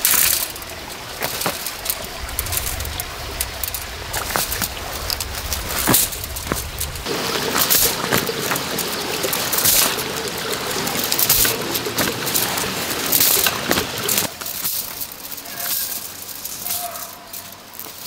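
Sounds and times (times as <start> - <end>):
scraping rustles: 0.0 - 18.0
wire mesh rattling and clinking: 0.0 - 18.0.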